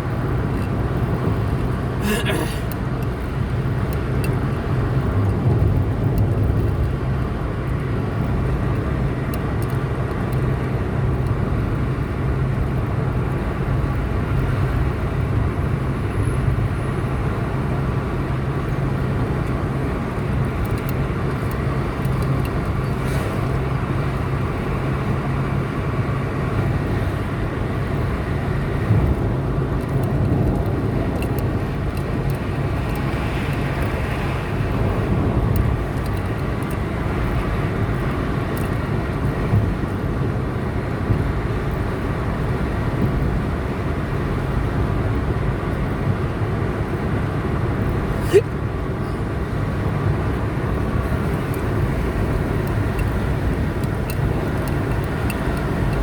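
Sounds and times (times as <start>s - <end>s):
car engine rumble: 0.0s - 56.0s
tyre road noise: 0.0s - 56.0s.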